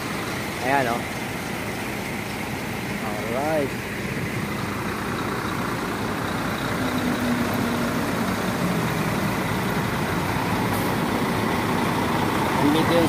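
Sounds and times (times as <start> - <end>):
bus diesel engines idling: 0.0 - 13.0.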